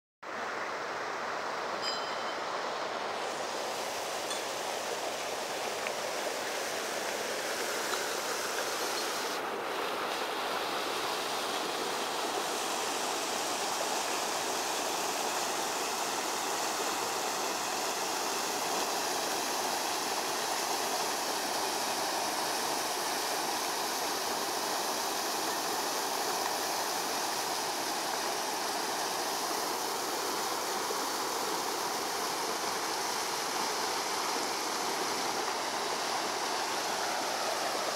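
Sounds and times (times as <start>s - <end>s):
river water rushing over rocks: 0.3s - 37.9s.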